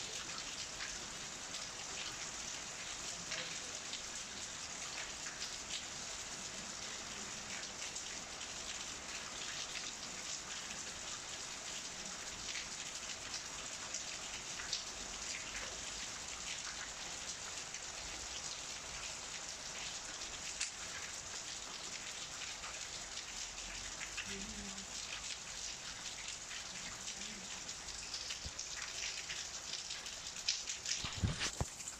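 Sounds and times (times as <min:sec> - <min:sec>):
rain falling: 0:00.0 - 0:31.9.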